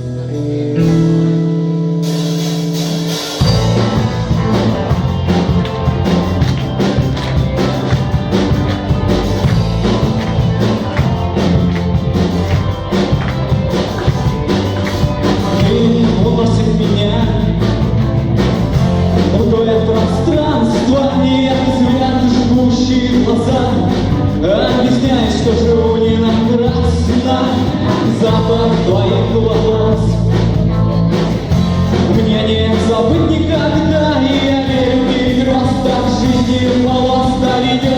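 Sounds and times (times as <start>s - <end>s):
rock band playing: 0.0s - 37.9s.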